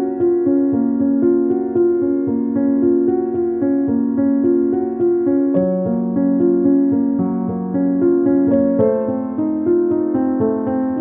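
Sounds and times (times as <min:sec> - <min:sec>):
soft keyboard music: 0:00.0 - 0:11.0.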